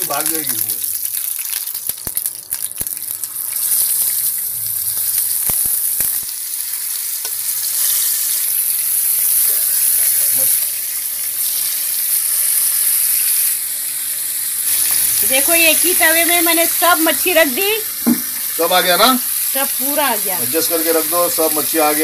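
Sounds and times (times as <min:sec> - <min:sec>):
fish sizzling in hot oil: 0:00.0 - 0:22.0
oil crackling and popping: 0:00.0 - 0:22.0.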